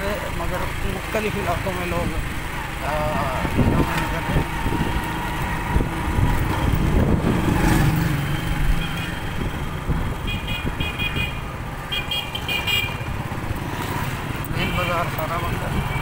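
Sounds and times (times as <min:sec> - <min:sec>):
motorcycle running at low speed: 0:00.0 - 0:16.0.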